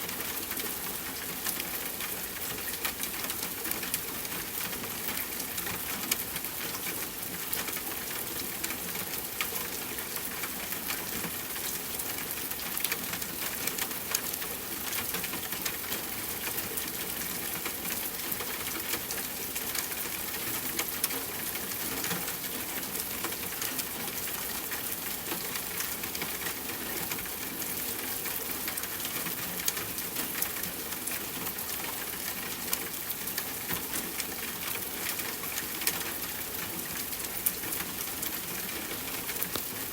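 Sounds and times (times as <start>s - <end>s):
raindrops ticking on a surface: 0.0s - 39.9s.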